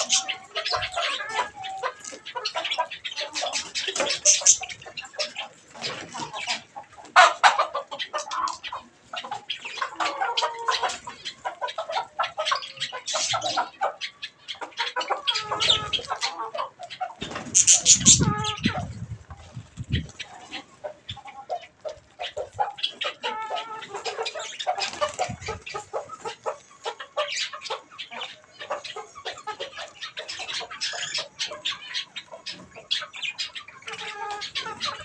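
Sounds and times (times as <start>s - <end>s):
budgerigars chattering: 0.0s - 19.0s, 19.8s - 35.0s.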